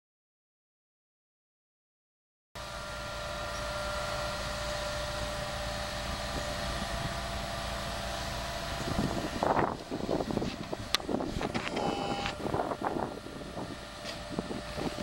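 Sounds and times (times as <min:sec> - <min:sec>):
diesel machinery humming: 0:02.6 - 0:15.0.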